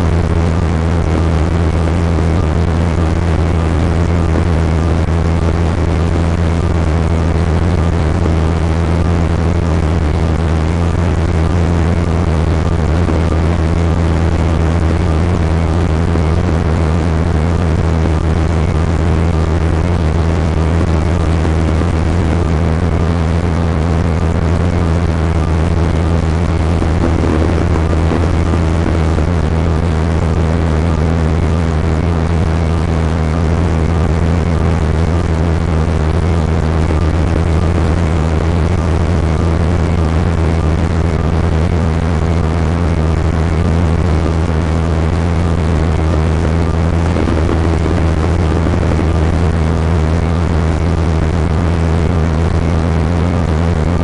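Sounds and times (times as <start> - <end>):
motor vehicle engine droning: 0.0 - 54.0
rushing noise: 0.0 - 54.0.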